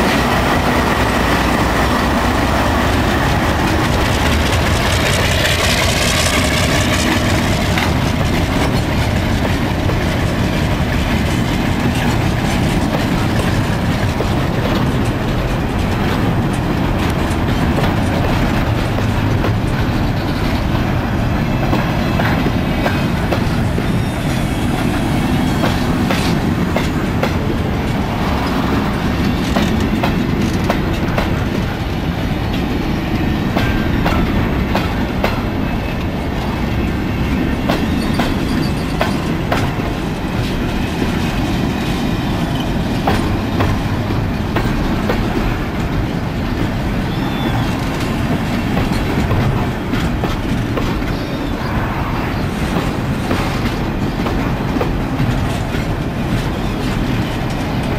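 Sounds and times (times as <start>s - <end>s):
wheels clicking over rail joints: 0.0s - 20.9s, 24.8s - 36.6s, 37.6s - 51.4s
steel wheels rumbling on rail: 0.0s - 57.9s.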